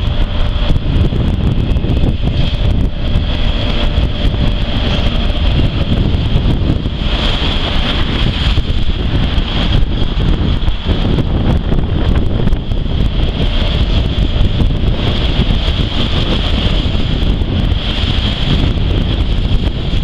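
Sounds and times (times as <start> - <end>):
freight train wheels rumbling: 0.0 - 20.0
high whine of wheels: 0.0 - 20.0
wind buffeting microphone: 0.0 - 20.0.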